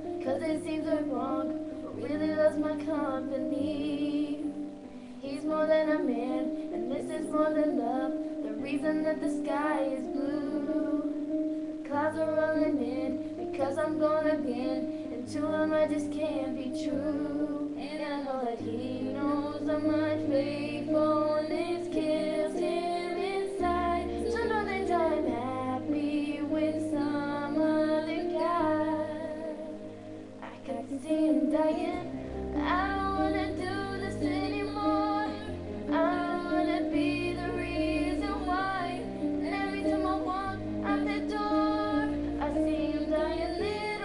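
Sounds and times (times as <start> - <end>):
low backing track: 0.0 - 44.0
woman singing a pop ballad: 0.1 - 11.3, 11.9 - 29.7, 30.4 - 44.0.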